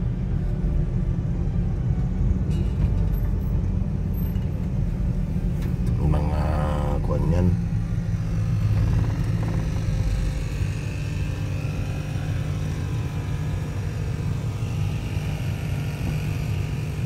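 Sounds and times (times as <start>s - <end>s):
car engine rumble: 0.0s - 17.0s
faint hum: 0.0s - 17.0s.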